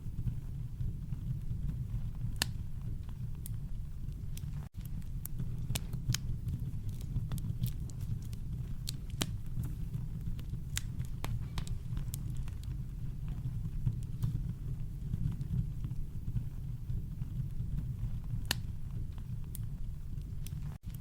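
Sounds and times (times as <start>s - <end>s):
campfire crackling: 0.0s - 21.0s
deep rumble: 0.0s - 21.0s.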